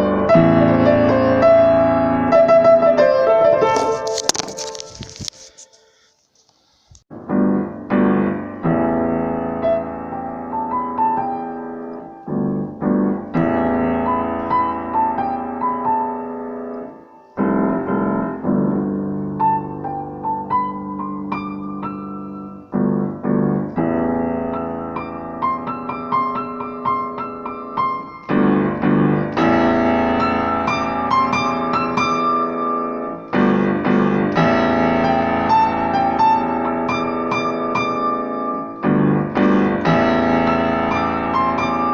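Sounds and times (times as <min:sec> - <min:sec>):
slow piano music: 0:00.0 - 0:05.2, 0:07.1 - 0:41.9.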